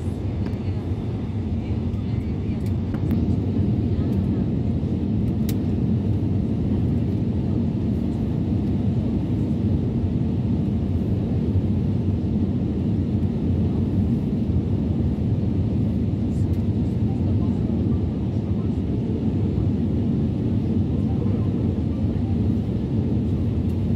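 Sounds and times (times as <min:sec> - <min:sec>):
jet engine rumble in cabin: 0:00.0 - 0:23.9.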